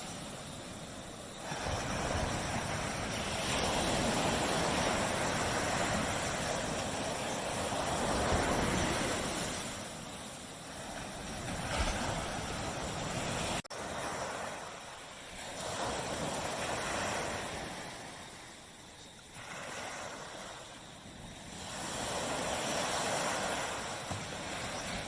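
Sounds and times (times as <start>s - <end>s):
sea waves breaking on beach: 0.0s - 25.0s.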